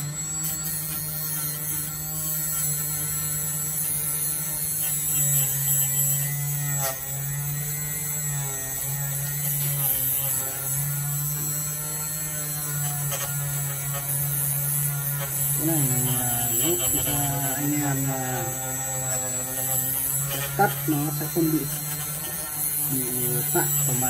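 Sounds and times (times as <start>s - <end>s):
electric motor humming: 0.0s - 24.0s.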